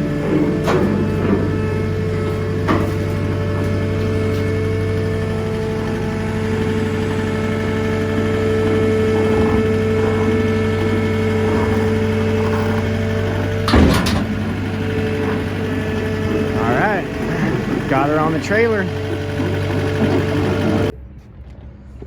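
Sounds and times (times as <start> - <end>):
skid steer engine running: 0.0 - 21.0.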